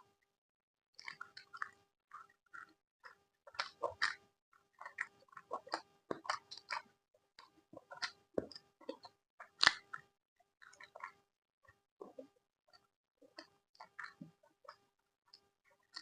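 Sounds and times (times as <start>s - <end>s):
person chewing food: 1.0s - 16.0s.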